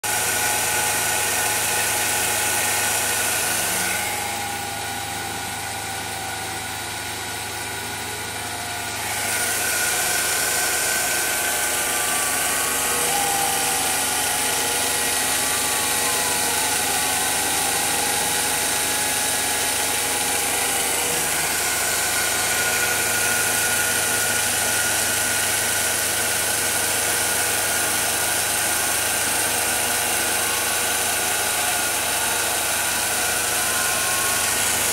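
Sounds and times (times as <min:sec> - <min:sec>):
milling machine hum: 0:00.0 - 0:34.9
short gliding whines: 0:00.1 - 0:34.9.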